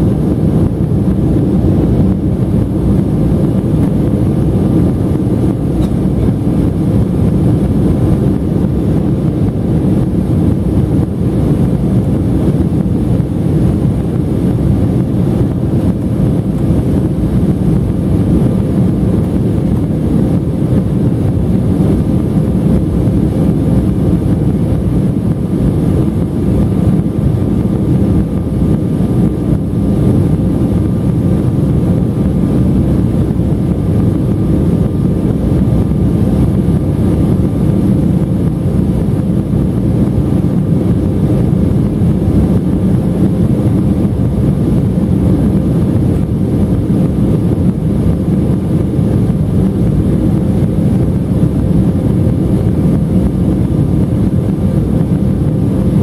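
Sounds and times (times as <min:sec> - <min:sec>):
airflow rushing: 0:00.0 - 0:56.0
jet engines humming: 0:00.0 - 0:56.0.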